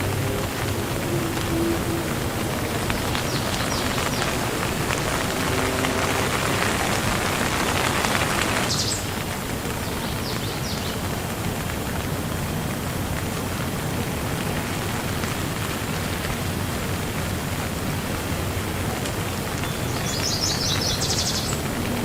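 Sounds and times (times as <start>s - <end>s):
rain pattering: 0.0s - 22.0s.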